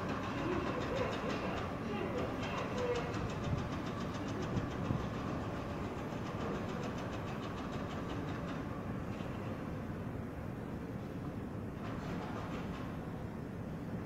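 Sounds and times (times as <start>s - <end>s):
train wheels clicking over rail joints: 0.0s - 9.7s, 11.7s - 13.5s
low train rumble: 0.0s - 14.0s.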